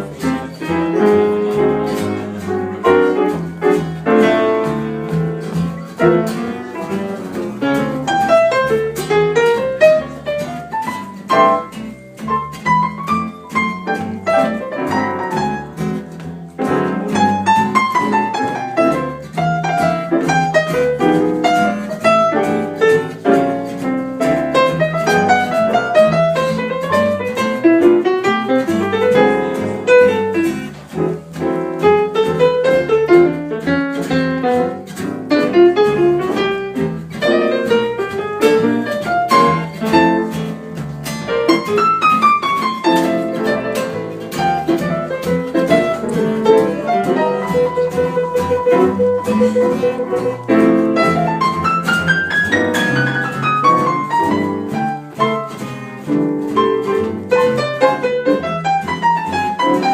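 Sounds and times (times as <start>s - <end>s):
piano playing: 0.0s - 59.9s.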